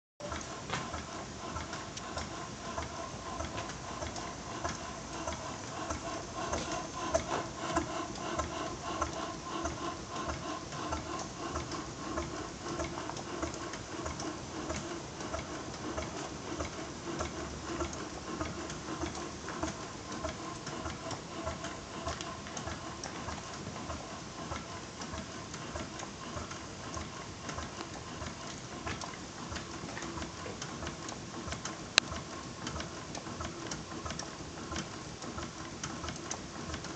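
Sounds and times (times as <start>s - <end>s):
steady hum: 0.2s - 36.9s
valve gear clicking and clattering: 0.2s - 36.9s.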